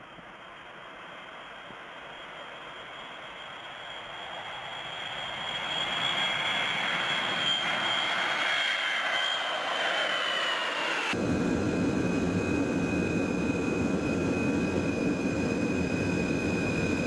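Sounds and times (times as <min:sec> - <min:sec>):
jet flying past: 0:01.0 - 0:17.0
high engine whine: 0:02.8 - 0:17.0.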